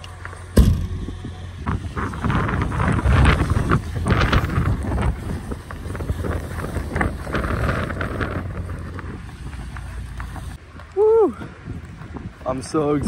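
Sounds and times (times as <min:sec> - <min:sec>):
wind buffeting microphone: 0:00.6 - 0:13.0.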